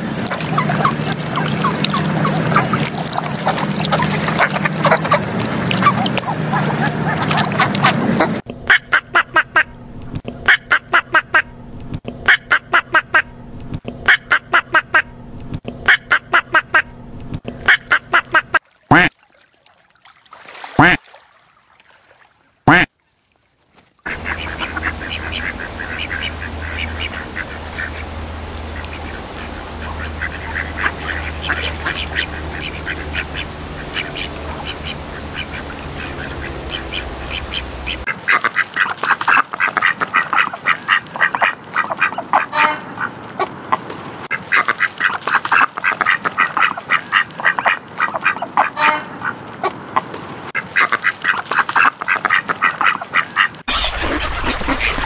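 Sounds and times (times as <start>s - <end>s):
ducks quacking: 0.0s - 9.7s, 10.4s - 11.5s, 12.2s - 13.3s, 14.0s - 15.1s, 15.8s - 16.9s, 17.6s - 19.1s, 20.8s - 21.0s, 22.7s - 22.9s, 24.1s - 55.0s.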